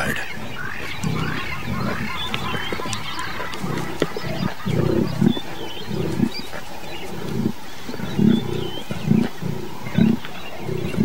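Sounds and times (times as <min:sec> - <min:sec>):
lions growling: 0:00.0 - 0:11.0.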